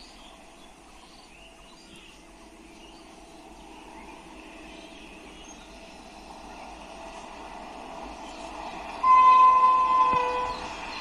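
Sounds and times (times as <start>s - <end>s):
birds chirping: 0.0s - 7.0s, 7.8s - 11.0s
distant electric train hum: 0.0s - 11.0s.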